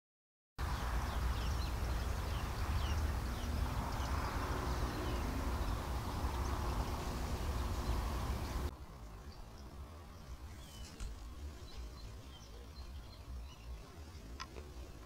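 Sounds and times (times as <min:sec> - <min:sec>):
high falling bird chirps: 0:00.6 - 0:15.0.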